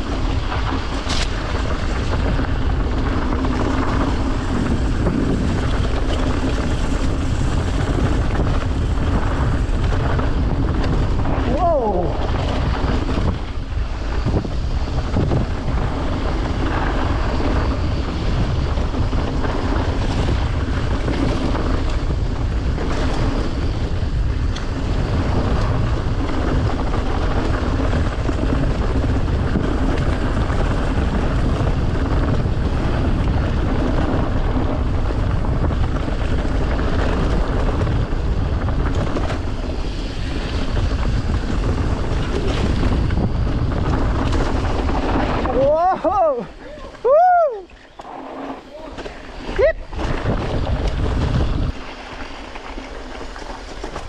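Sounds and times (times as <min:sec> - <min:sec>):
bike rattle: 0:00.0 - 0:54.0
tyre noise on trail: 0:00.0 - 0:54.0
wind buffeting microphone: 0:00.0 - 0:54.0.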